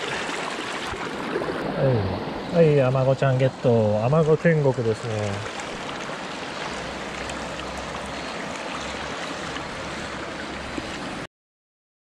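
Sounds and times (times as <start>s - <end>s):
stream flowing over rocks: 0.0s - 11.3s.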